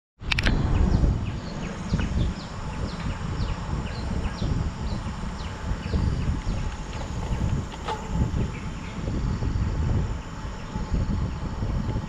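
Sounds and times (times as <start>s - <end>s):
wind rumble on microphone: 0.2s - 12.0s
birds chirping: 0.5s - 12.0s.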